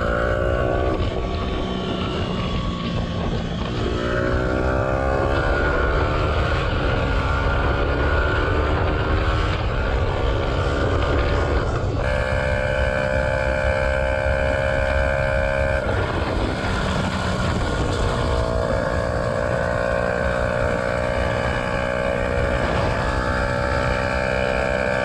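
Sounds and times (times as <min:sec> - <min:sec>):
motorcycle engine running: 0:00.0 - 0:25.0
wind rumble on microphone: 0:00.0 - 0:25.0.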